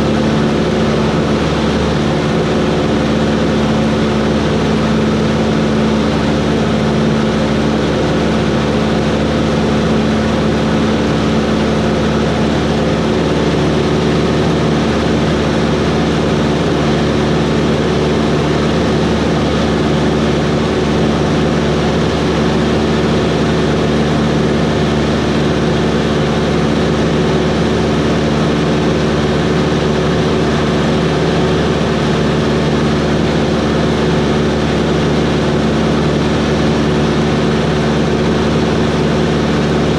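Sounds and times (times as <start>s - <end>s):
light plane engine drone: 0.0s - 39.9s.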